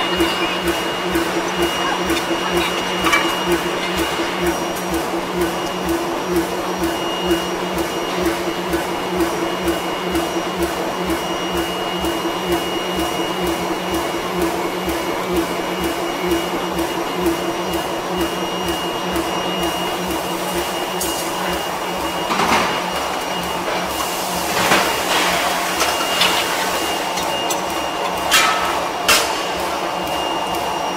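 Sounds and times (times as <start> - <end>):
rolling mill drone and whine: 0.0 - 30.9.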